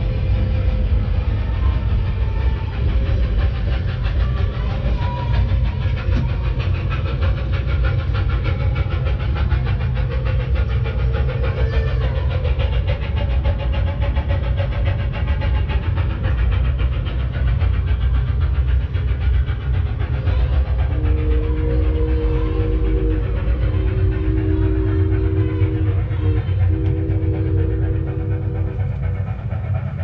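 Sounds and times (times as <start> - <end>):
model train rumbling: 0.0 - 30.0
rapid ticking of train wheels: 0.0 - 30.0.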